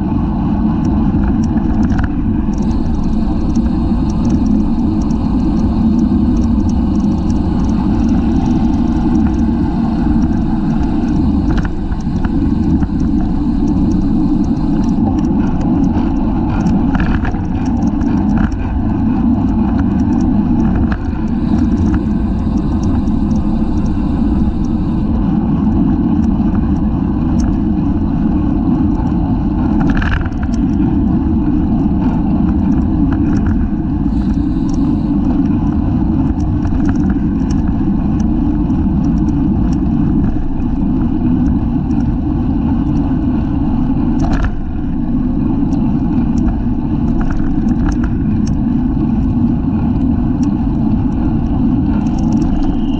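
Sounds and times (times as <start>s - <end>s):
road rumble: 0.0s - 52.9s
wind: 0.0s - 52.9s
bike clicks and rattles: 0.6s - 52.9s.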